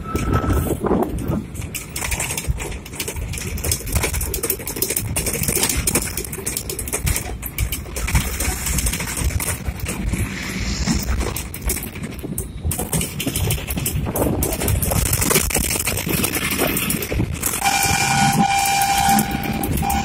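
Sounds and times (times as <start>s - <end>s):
engine and tyres rumbling: 0.0s - 20.0s
rattling and knocking inside vehicle: 0.0s - 20.0s.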